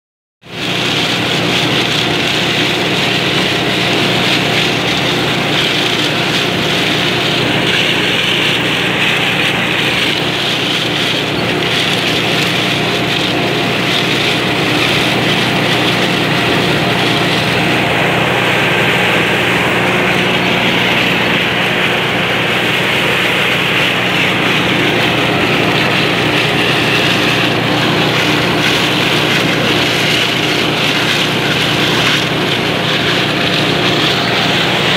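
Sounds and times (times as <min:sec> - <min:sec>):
combine harvester engine droning: 0:00.5 - 0:34.9.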